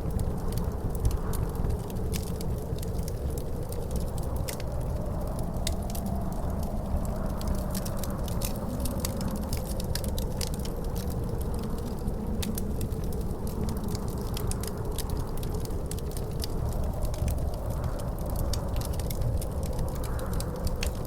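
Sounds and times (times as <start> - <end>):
faint howl of wind: 0.0 - 21.0
low rumble of wind: 0.0 - 21.0
wood fire crackling and popping: 0.0 - 21.0.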